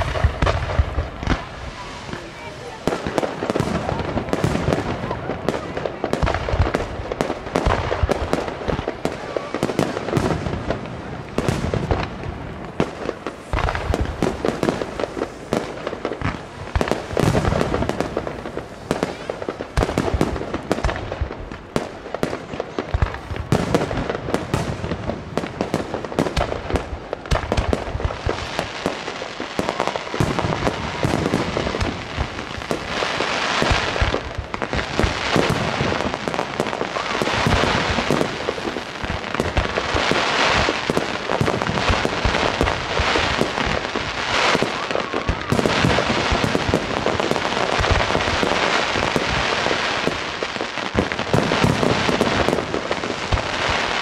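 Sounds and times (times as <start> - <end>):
fireworks hissing: 0.0 - 54.0.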